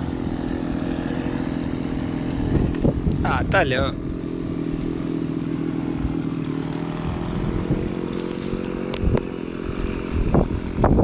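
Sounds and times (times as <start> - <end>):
chainsaw idling: 0.0 - 11.0.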